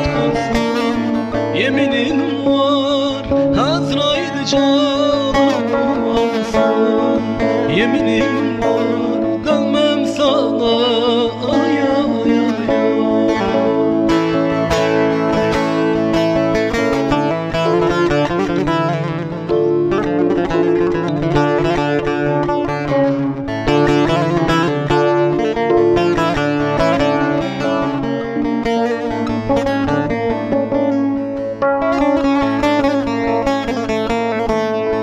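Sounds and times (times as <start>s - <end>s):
keyboard backing with steady beat: 0.0s - 35.0s
plucked long-necked lute melody: 0.0s - 35.0s.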